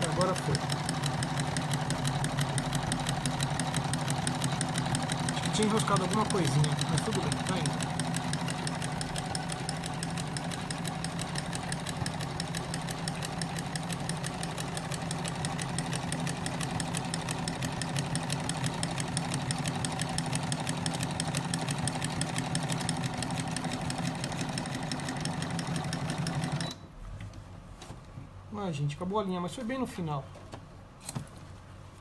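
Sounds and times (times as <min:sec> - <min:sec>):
sewing machine motor hum: 0:00.0 - 0:26.8
sewing machine needle clatter: 0:00.0 - 0:26.8.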